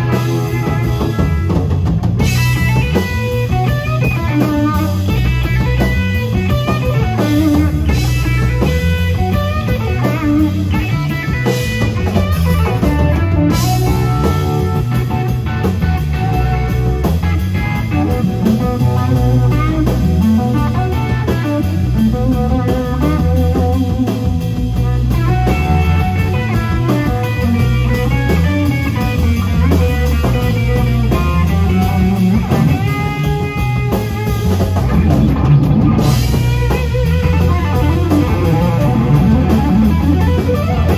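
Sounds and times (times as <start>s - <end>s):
drum kit: 0.0s - 40.9s
electric guitar: 0.0s - 40.9s
heavy electric bass line: 0.0s - 40.9s.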